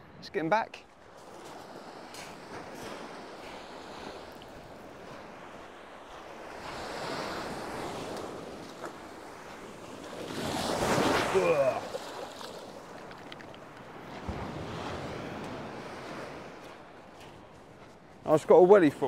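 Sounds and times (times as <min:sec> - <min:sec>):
sea waves breaking on beach: 0:00.8 - 0:19.0.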